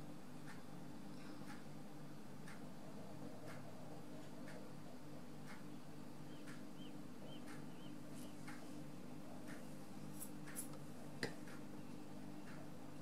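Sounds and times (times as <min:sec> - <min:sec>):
steady low hum: 0:00.0 - 0:13.0
faint regular ticking: 0:00.1 - 0:13.0.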